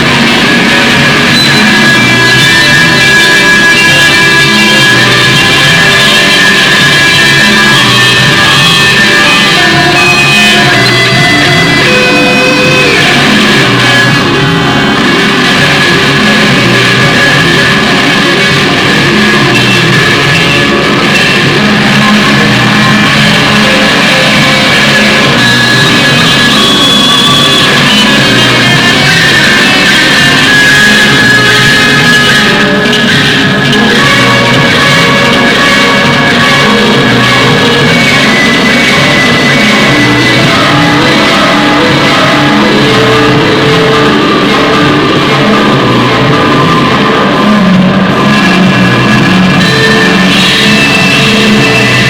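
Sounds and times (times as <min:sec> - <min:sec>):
loud electric guitar rock music: 0:00.0 - 0:52.0.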